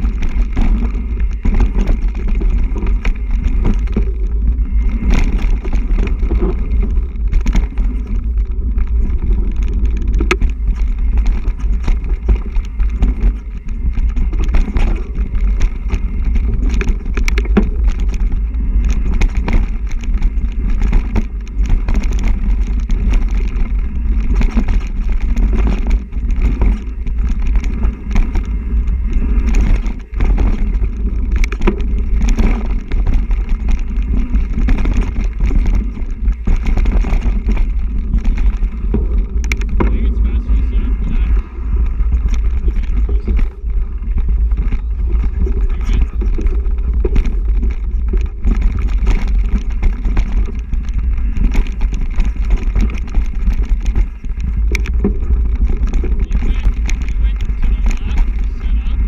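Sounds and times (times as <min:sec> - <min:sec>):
bike frame rattling and clicking: 0:00.0 - 0:59.0
wind buffeting microphone: 0:00.0 - 0:59.0.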